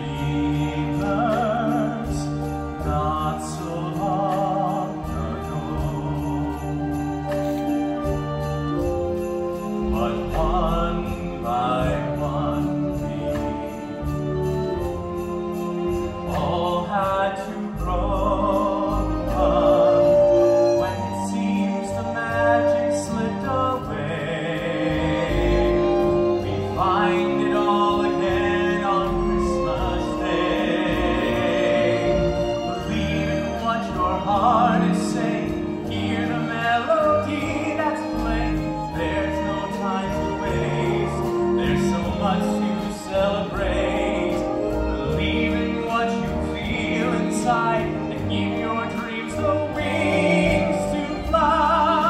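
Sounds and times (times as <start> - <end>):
orchestral backing music: 0.0 - 52.0.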